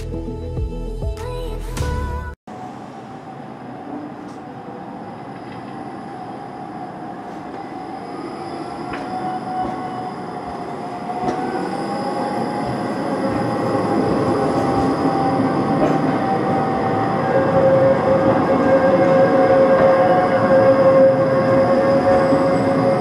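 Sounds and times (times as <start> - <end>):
tram rumble: 2.5 - 23.0
tram whine: 2.5 - 23.0.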